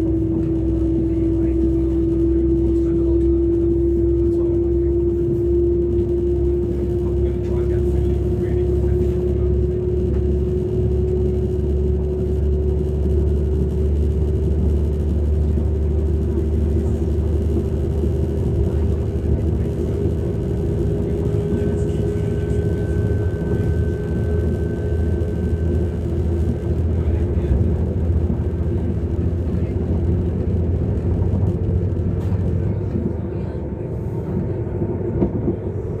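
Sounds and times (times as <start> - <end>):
train diesel engine rumble and whine: 0.0 - 36.0.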